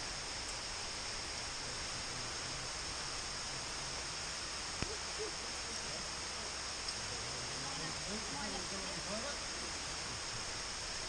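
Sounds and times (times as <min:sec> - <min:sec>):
rain falling on rock: 0:00.0 - 0:11.0.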